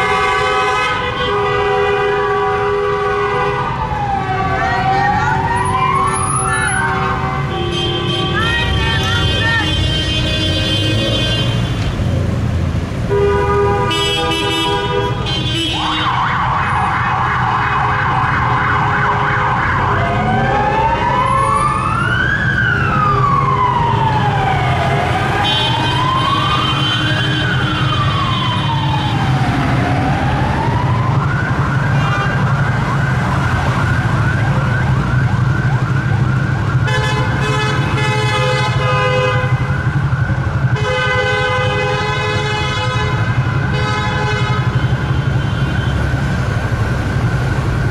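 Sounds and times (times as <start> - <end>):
police sirens: 0.0 - 10.2, 14.2 - 47.9
traffic rumble: 0.0 - 47.9.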